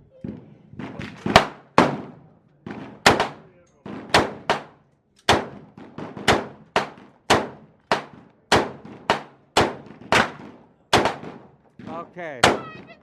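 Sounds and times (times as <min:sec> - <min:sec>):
gunshots with echo: 0:00.8 - 0:12.9.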